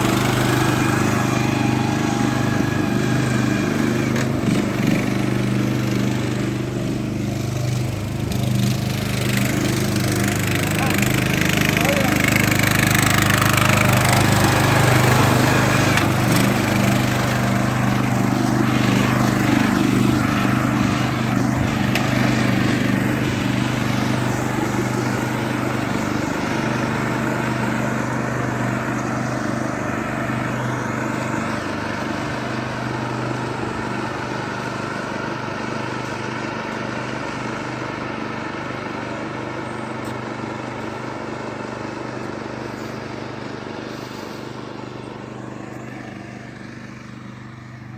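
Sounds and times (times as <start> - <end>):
lawn tractor engine running: 0.0 - 47.9.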